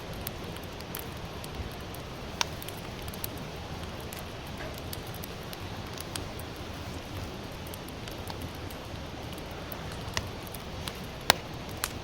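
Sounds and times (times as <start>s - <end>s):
campfire hissing: 0.0s - 12.0s
fire crackling and popping: 0.0s - 12.0s.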